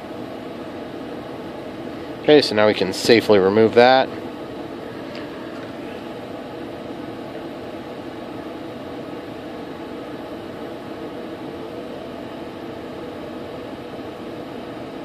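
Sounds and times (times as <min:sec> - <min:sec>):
ventilation humming: 0:00.0 - 0:15.0.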